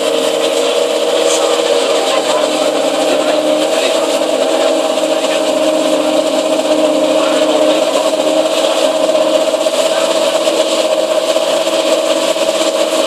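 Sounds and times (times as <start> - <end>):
sports car engine idling: 0.0 - 13.0.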